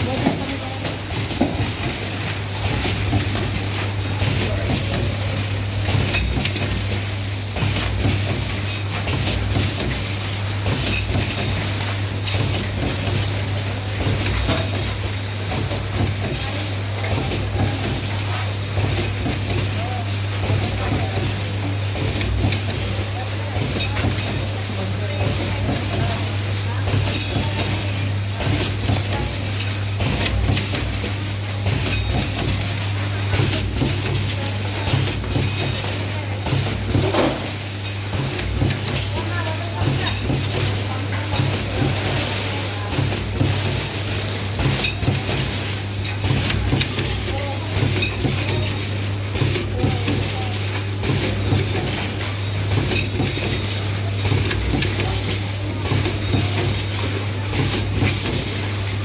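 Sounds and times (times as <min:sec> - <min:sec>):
packing machine clicks and clatters: 0:00.0 - 0:59.0.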